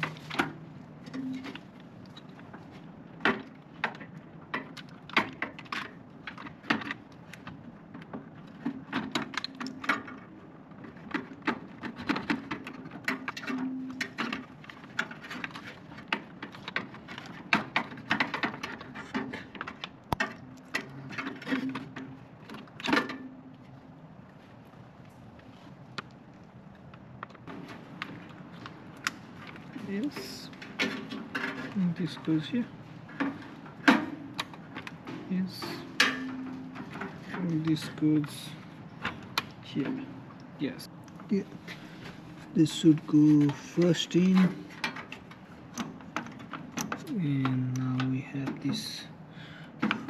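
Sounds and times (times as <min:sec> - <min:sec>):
clicks and knocks of parts handled: 0:00.0 - 0:23.8, 0:25.0 - 0:49.1, 0:49.7 - 0:50.0.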